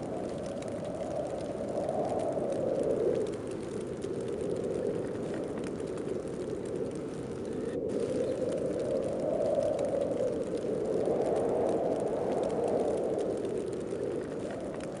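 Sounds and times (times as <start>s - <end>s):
faint scattered ticks: 0.0s - 15.0s
gusting snowstorm wind: 0.0s - 15.0s.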